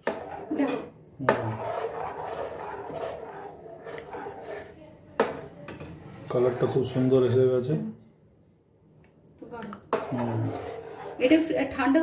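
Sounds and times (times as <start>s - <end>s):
spatula scraping saucepan: 0.0s - 7.5s, 9.7s - 12.0s.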